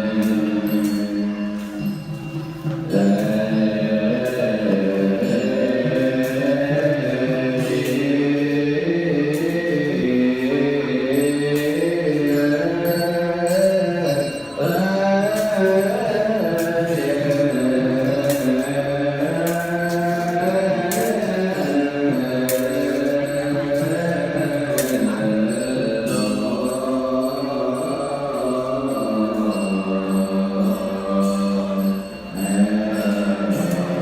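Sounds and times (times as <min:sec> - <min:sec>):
chant-like voices holding long tones: 0:00.0 - 0:34.0.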